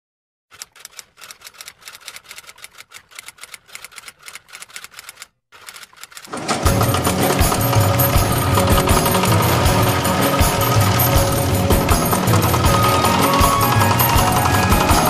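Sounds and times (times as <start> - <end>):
rapid even clicking: 0.5 - 15.0.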